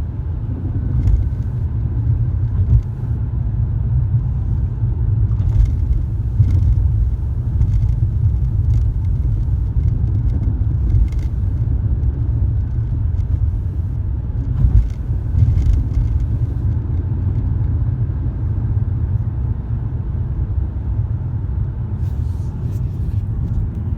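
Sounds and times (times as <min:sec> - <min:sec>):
car rumbling on the move: 0:00.0 - 0:23.9.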